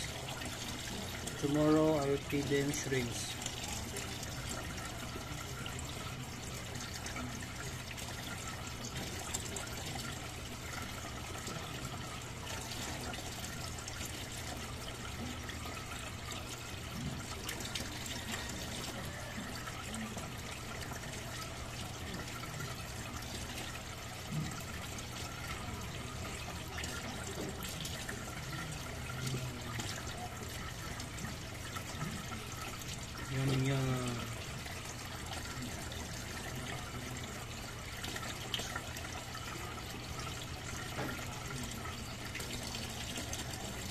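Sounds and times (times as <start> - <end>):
water trickling and splashing: 0.0 - 43.9.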